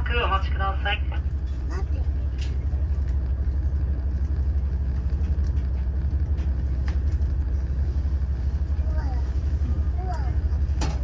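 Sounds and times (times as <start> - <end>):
diesel railcar engine idling: 0.0 - 11.0.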